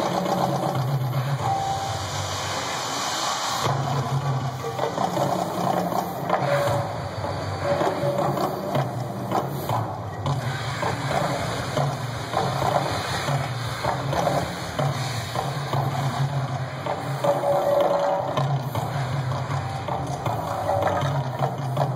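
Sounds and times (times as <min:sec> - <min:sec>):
fire and water effects: 0:00.0 - 0:21.9.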